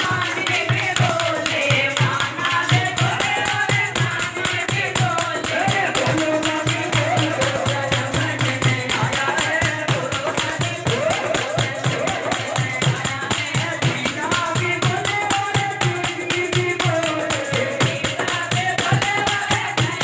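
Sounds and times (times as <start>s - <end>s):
group hand-clapping: 0.0s - 20.0s
hand drum: 0.0s - 20.0s
jingling percussion: 0.0s - 20.0s
woman singing into microphone: 0.0s - 20.0s.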